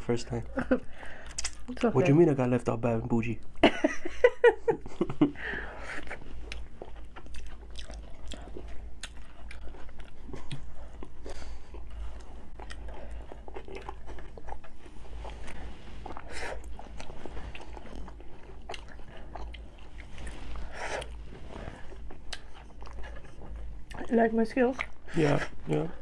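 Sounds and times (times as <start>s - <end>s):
chewing crunchy taco shells: 1.1s - 1.7s, 5.7s - 26.0s.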